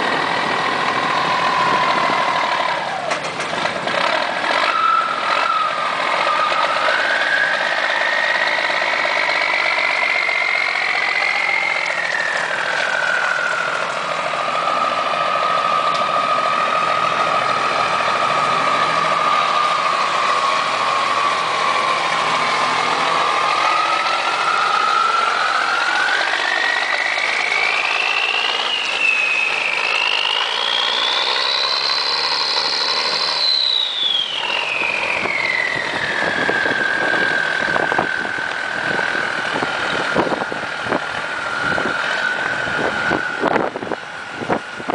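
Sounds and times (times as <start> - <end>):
high-pitched turbo whine: 0.0 - 44.9
truck engine running: 0.0 - 44.9.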